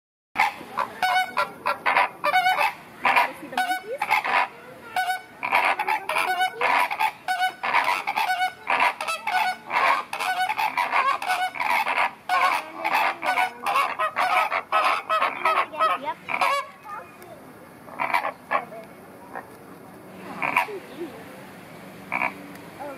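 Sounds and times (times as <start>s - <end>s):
flamingos honking: 0.4s - 22.9s.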